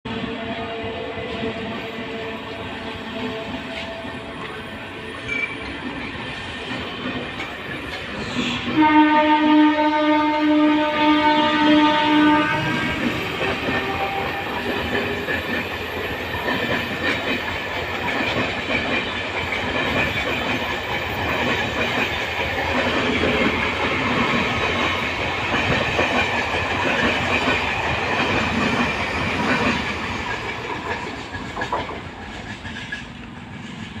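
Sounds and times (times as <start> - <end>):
train rumbling on tracks: 0.0 - 34.0.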